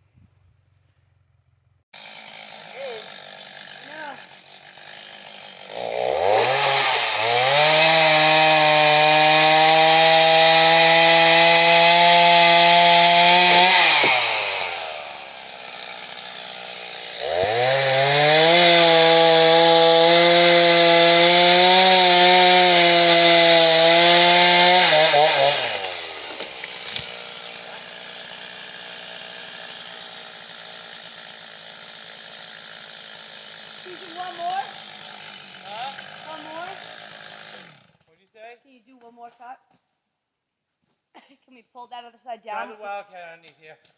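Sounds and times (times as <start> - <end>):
chainsaw cutting tree: 2.0 - 38.1.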